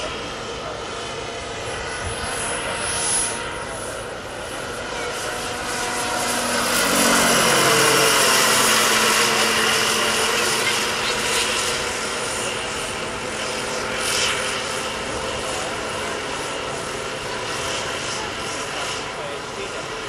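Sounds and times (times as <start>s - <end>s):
model helicopter turbine whine: 0.0s - 20.0s.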